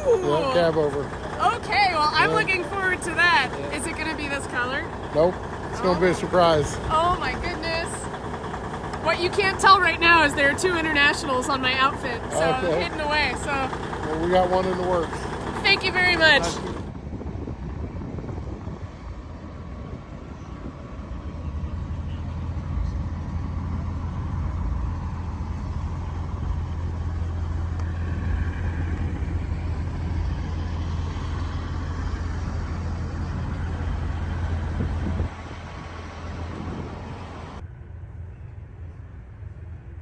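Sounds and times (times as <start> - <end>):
truck engine idling: 0.0 - 17.0, 20.1 - 40.0.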